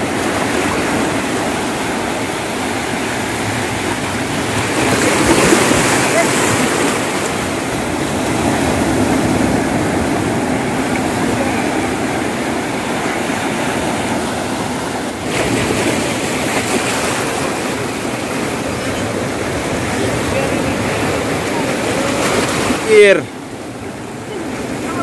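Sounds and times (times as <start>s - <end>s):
sea waves rushing: 0.0s - 25.0s
wind: 0.0s - 25.0s.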